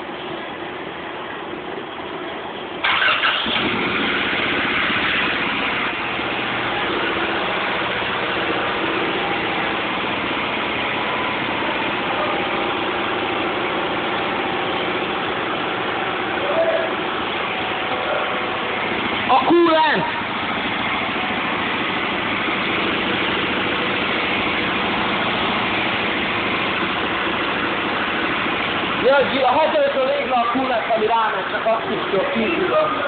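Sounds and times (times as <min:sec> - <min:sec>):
car engine starting and idling: 0:00.0 - 0:33.0.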